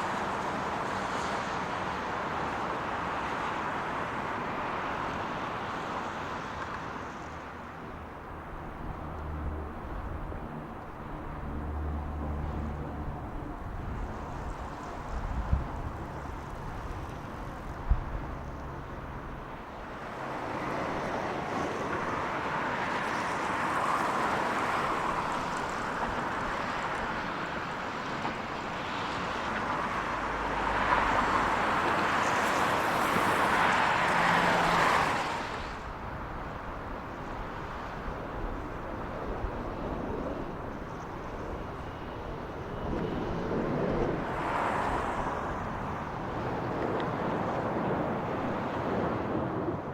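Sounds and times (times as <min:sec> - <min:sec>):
military aircraft passing overhead: 0:00.1 - 0:49.9.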